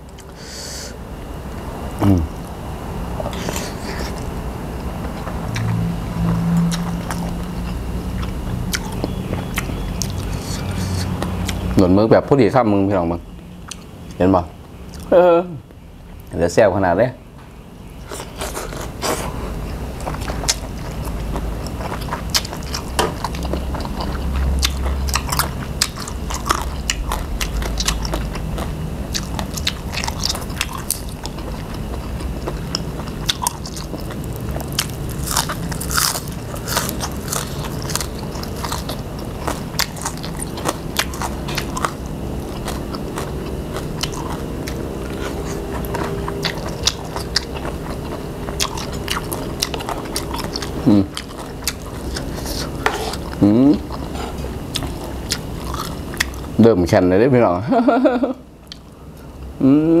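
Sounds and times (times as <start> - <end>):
chewing and crunching: 5.0 - 11.8, 13.6 - 15.1, 18.0 - 56.7, 58.1 - 59.3.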